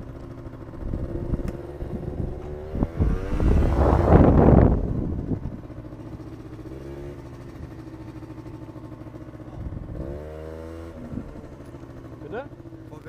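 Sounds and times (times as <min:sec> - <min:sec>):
scooter engine running: 0:00.0 - 0:13.0.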